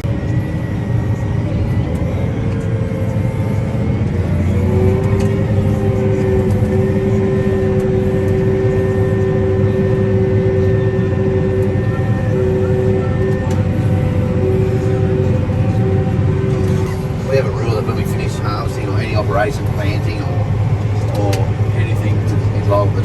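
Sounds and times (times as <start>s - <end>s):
deep engine rumble: 0.0s - 23.0s
drive whine: 0.0s - 23.0s.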